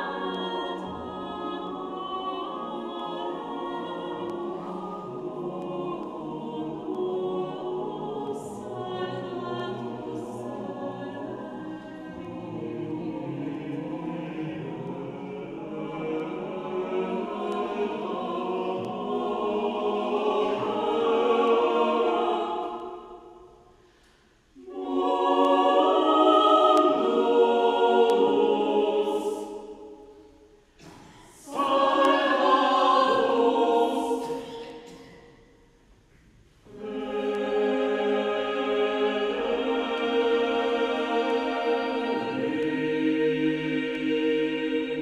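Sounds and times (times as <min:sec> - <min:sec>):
choir singing a cappella: 0:00.0 - 0:45.0.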